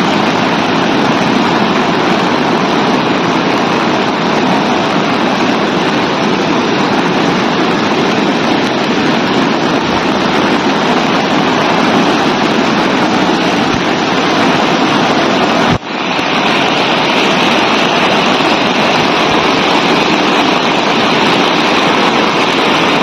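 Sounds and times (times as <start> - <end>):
river rushing over rapids: 0.0 - 23.0.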